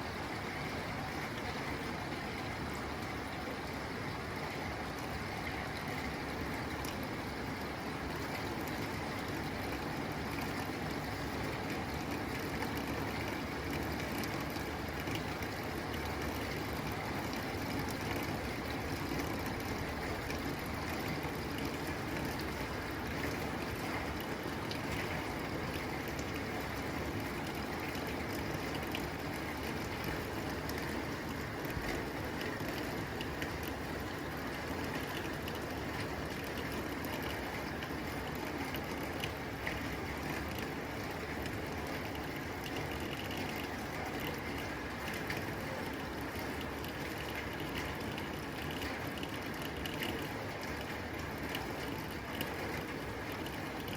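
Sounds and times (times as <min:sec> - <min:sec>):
rain on a tin roof: 0:00.0 - 0:53.9.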